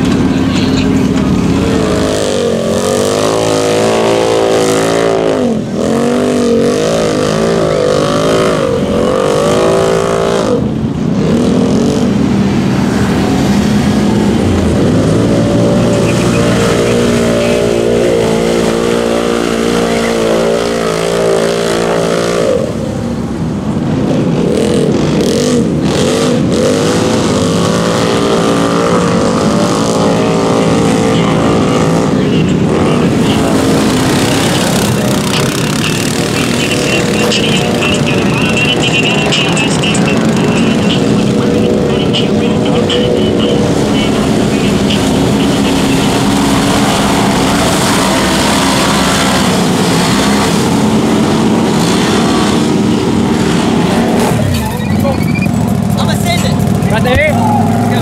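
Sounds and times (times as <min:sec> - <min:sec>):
utility vehicle engines revving: 0:00.0 - 0:58.0.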